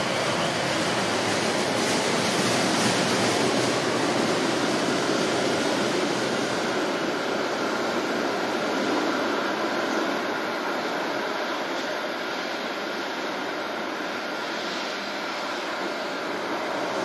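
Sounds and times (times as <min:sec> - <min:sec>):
light-rail train rushing: 0:00.0 - 0:17.0.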